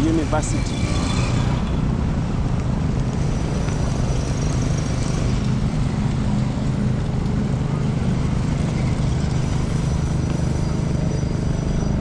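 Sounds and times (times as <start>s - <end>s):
road noise hiss: 0.0s - 12.0s
vehicle low rumble: 0.0s - 12.0s.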